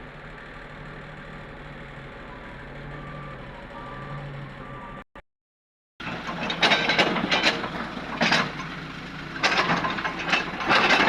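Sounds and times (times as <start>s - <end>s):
diesel engine hum: 0.0s - 5.1s, 6.0s - 11.0s.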